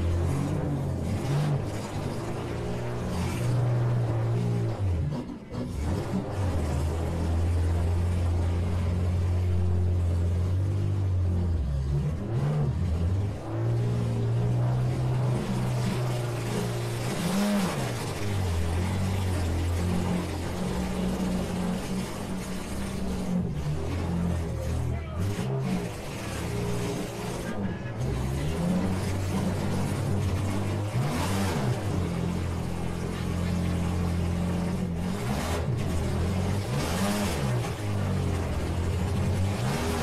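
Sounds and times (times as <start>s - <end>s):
minivan engines revving: 0.0s - 40.0s.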